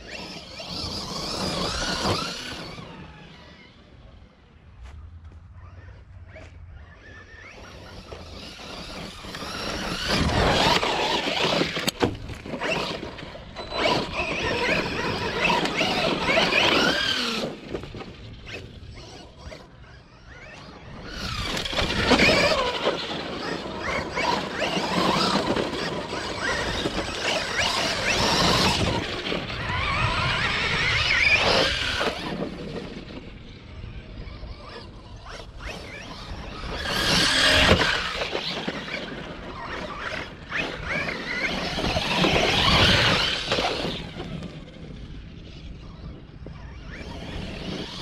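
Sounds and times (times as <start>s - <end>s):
electric motor whining: 0.0s - 48.0s
tires scrabbling on gravel: 0.0s - 48.0s.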